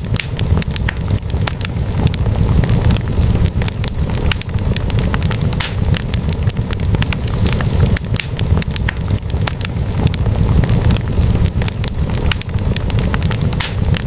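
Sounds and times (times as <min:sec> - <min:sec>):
low rumble of fire: 0:00.0 - 0:14.0
wood fire crackling and popping: 0:00.0 - 0:14.0.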